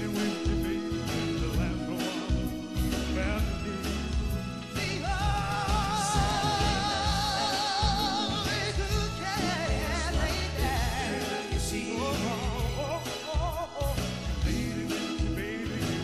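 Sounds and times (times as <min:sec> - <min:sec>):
person singing with vibrato: 0:00.0 - 0:16.0
soul band playing: 0:00.0 - 0:16.0.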